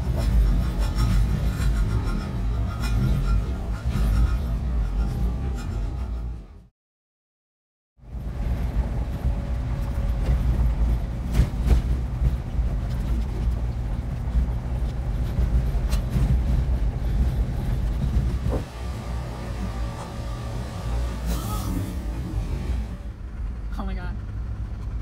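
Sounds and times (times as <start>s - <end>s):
engine and road rumble: 0.0s - 6.7s, 8.0s - 25.0s.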